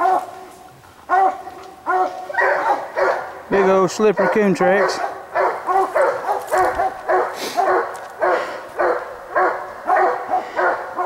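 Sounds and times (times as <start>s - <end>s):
dog barking: 0.0s - 0.5s, 1.1s - 11.0s.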